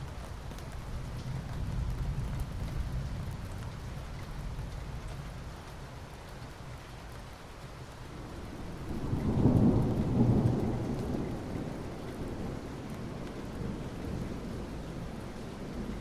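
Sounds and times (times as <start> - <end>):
low rumble of thunder: 0.0 - 6.1, 7.9 - 16.0
rain falling on asphalt: 0.0 - 16.0.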